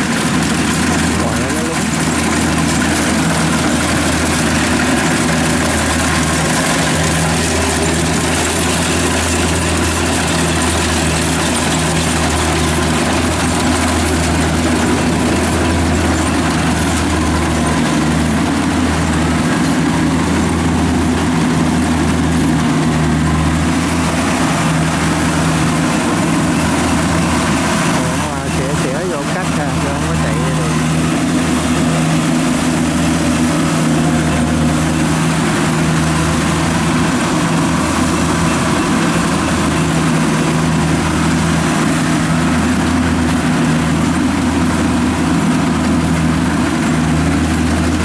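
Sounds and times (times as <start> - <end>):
combine harvester engine running: 0.0 - 48.0.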